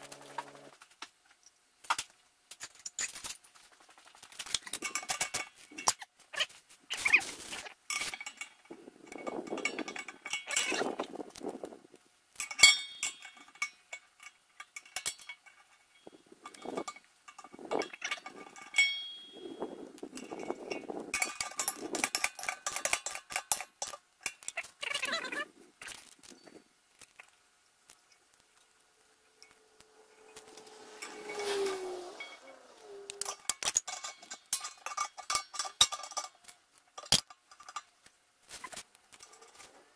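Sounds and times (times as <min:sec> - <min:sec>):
small metal clinks: 0:04.5 - 0:06.1, 0:07.9 - 0:11.8, 0:12.4 - 0:25.1, 0:25.9 - 0:39.8.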